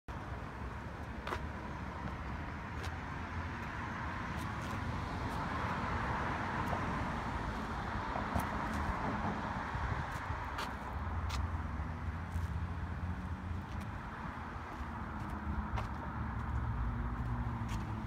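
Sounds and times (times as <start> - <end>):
street traffic noise: 0.1 - 18.0
vehicle passing: 2.8 - 18.0.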